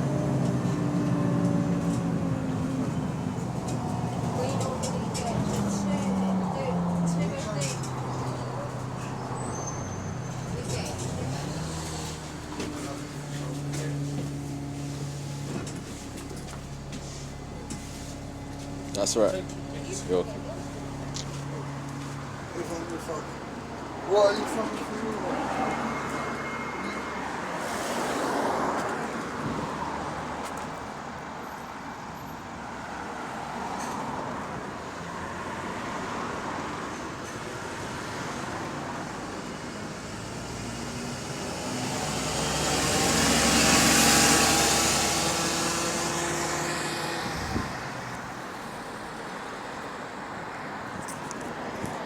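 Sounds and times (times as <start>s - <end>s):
bus engine drone: 0.0s - 52.0s
traffic noise: 0.0s - 52.0s.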